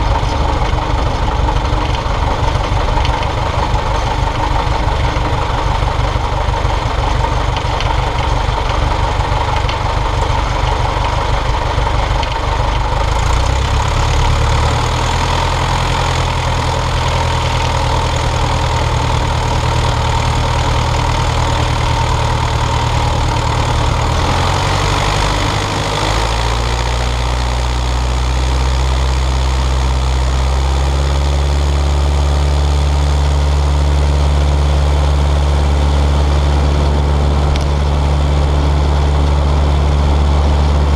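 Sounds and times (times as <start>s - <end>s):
light aircraft engine and propeller: 0.0s - 40.9s.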